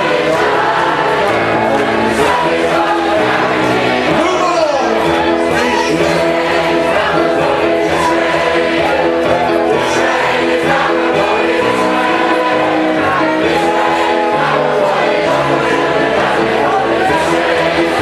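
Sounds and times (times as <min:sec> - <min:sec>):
crowd singing as a choir: 0:00.0 - 0:18.0
musical accompaniment: 0:00.0 - 0:18.0.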